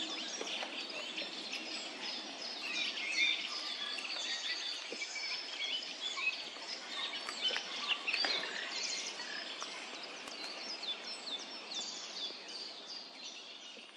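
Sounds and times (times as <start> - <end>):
songbirds singing: 0.0 - 13.9.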